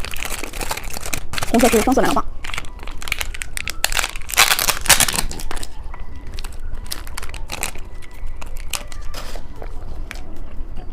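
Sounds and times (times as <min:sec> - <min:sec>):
plastic wrapper crinkling: 0:00.0 - 0:10.3.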